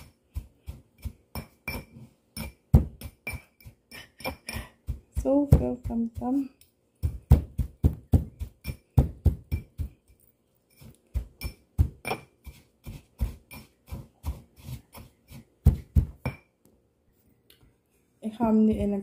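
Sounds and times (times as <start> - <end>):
pestle pounding in stone mortar: 0.0 - 10.2, 10.8 - 16.4.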